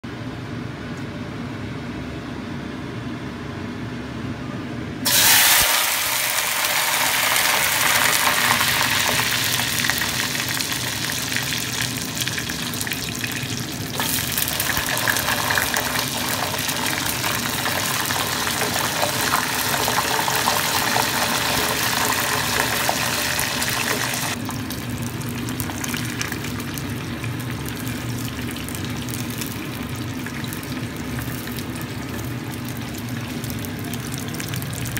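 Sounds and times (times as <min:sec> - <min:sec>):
fries sizzling in hot oil: 0:05.0 - 0:34.9.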